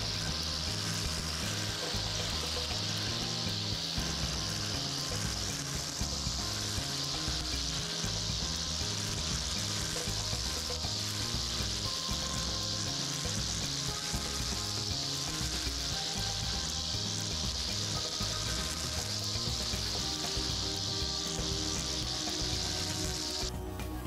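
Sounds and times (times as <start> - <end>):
brush cutter cutting grass: 0.0 - 23.5.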